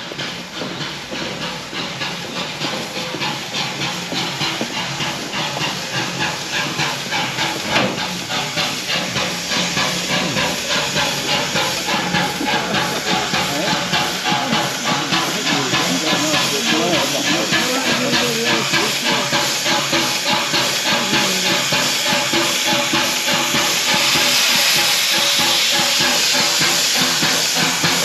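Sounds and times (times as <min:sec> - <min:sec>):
steam locomotive hissing: 0:00.0 - 0:28.0.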